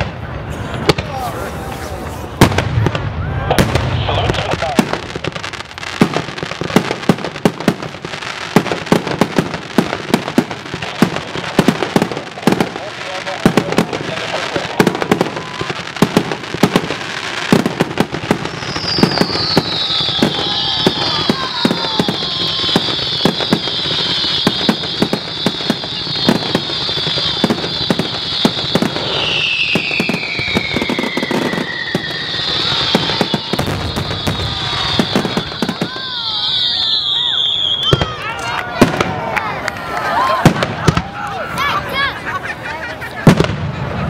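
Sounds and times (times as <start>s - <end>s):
fireworks bangs and crackling: 0.0s - 44.0s
firework whistling hiss: 0.4s - 38.3s.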